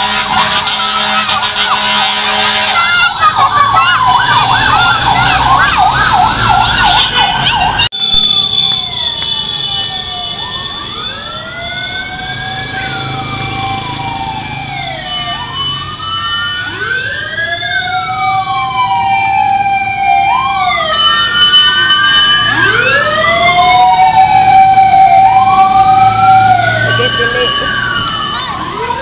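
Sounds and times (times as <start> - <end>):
fire truck sirens wailing: 0.0 - 29.0.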